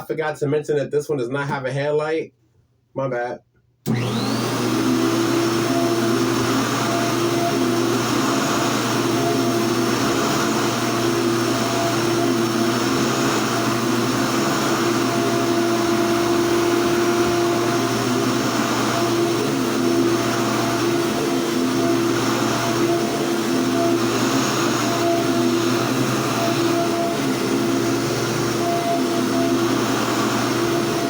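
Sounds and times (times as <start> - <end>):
vacuum cleaner running: 3.9 - 31.0.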